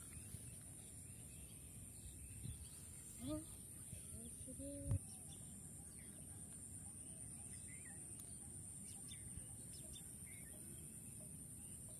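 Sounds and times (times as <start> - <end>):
bird chirps: 0.0 - 11.9.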